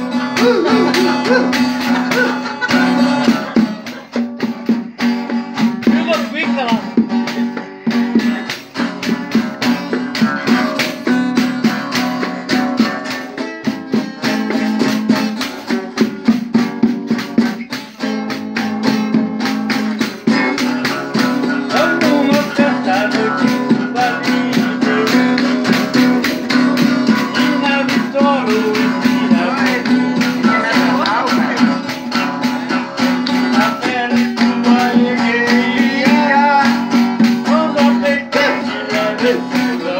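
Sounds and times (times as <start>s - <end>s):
classical guitar strumming: 0.0s - 39.9s.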